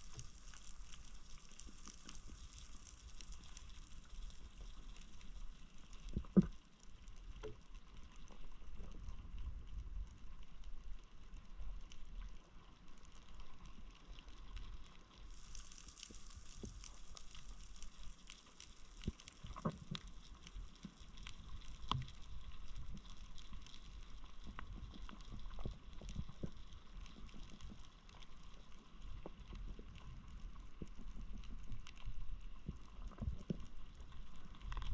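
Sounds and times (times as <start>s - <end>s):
dense crackle of tiny clicks: 0.0s - 34.9s
low underwater rumble: 0.0s - 34.9s.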